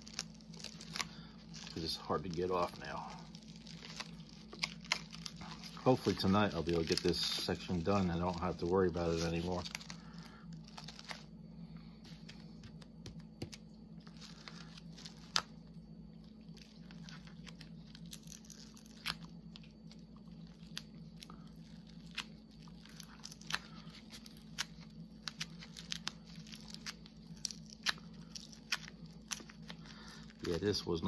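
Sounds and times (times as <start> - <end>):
plastic cling wrap crinkling: 0.0 - 11.4, 12.1 - 31.0
low steady hum: 0.0 - 31.0.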